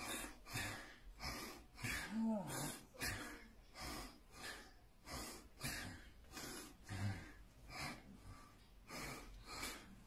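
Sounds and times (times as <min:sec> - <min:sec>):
boy breathing heavily: 0:00.0 - 0:10.0.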